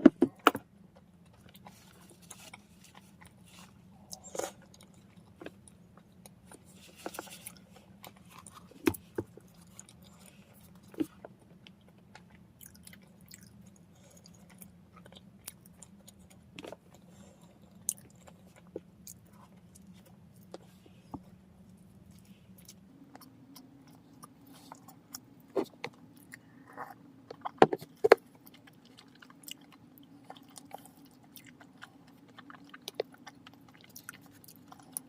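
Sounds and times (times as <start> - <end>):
faint low hum: 0.0 - 35.0
chewing bread: 0.3 - 35.0.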